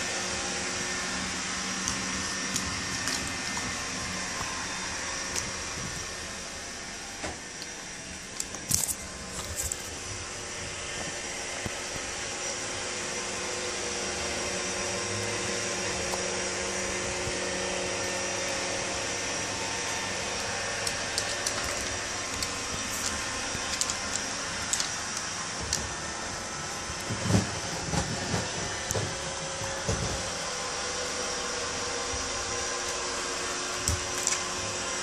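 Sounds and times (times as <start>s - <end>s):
appliance whirring and humming: 0.0s - 35.0s.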